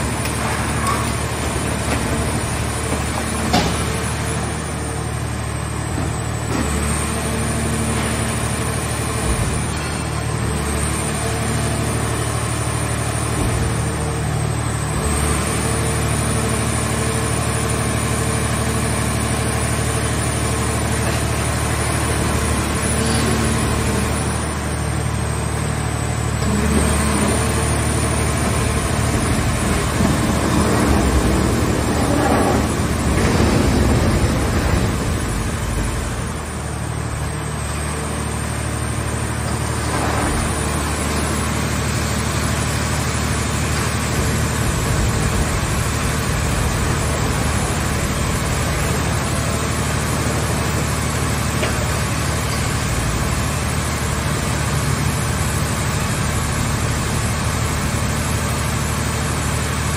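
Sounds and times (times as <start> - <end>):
hydraulic baler running: 0.0 - 59.9.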